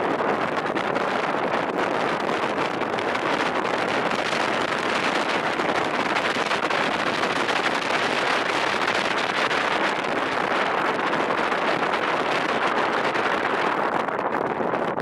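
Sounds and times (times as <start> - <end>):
wind rushing on microphone: 0.0 - 15.0.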